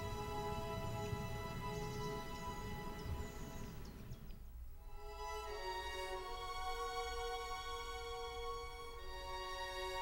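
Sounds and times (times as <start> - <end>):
music with sustained notes: 0.0 - 10.0.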